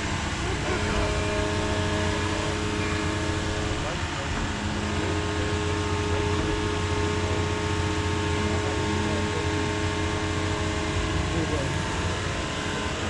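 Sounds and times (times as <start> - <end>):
heavy equipment engine humming: 0.0 - 13.0.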